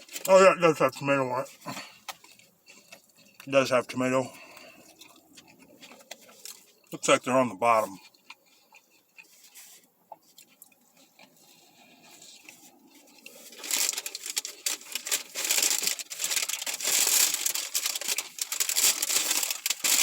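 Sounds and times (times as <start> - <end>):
paper wrapper crinkling: 0.0 - 6.9, 7.6 - 20.0.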